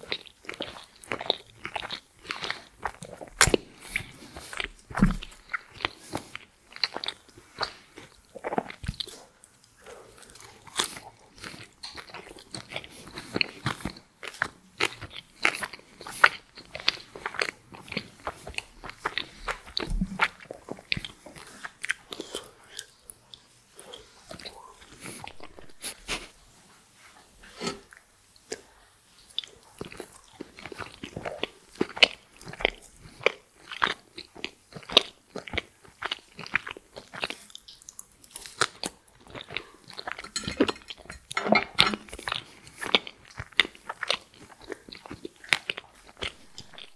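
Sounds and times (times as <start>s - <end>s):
crunching and chewing food: 0.0s - 46.9s.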